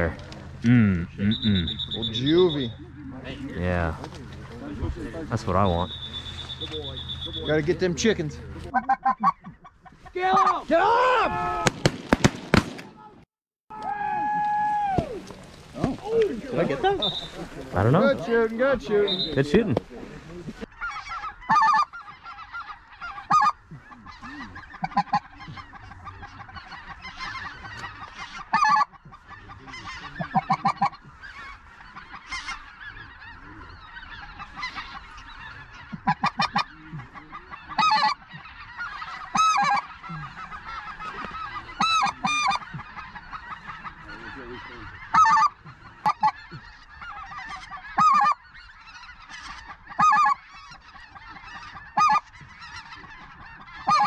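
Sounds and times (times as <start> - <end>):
geese calling: 0.0 - 11.7, 13.9 - 54.0.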